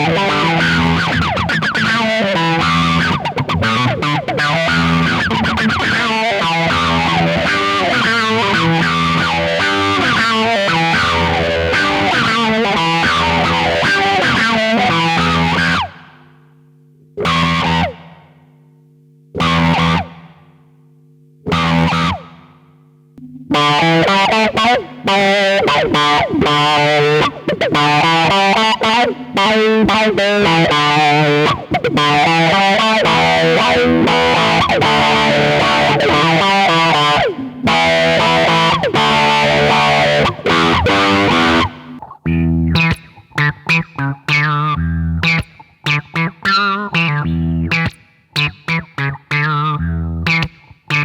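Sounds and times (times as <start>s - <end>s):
distorted electric guitar chords: 0.0s - 51.0s.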